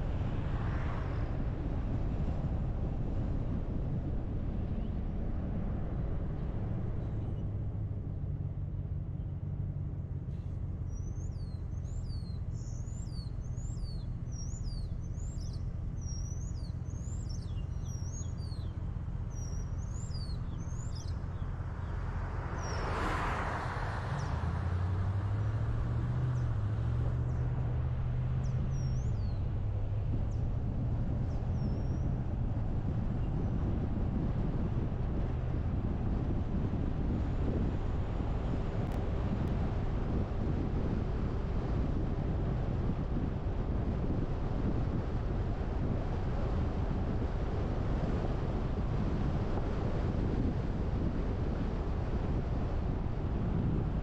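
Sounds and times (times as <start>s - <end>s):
car engine and road hum: 0.0s - 54.0s.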